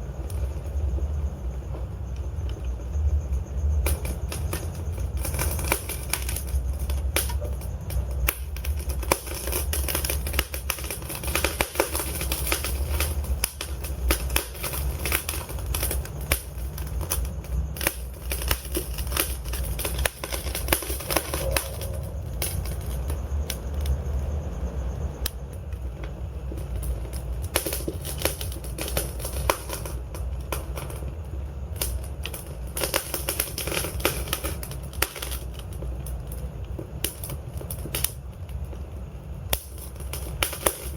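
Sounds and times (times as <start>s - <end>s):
steady low rumble: 0.0s - 40.9s
wood fire crackling and popping: 0.0s - 40.9s.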